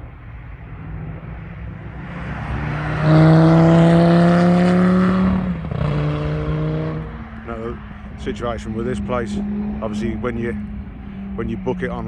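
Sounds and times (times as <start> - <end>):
sports car engine accelerating: 0.6 - 12.0.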